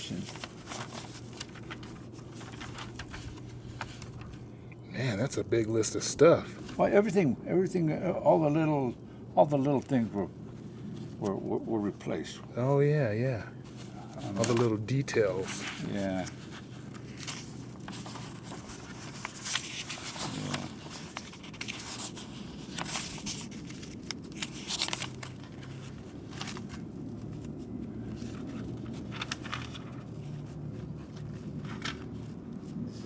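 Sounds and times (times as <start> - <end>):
paper rustling: 0.0 - 4.5, 5.9 - 33.0
low background hum: 0.0 - 33.0.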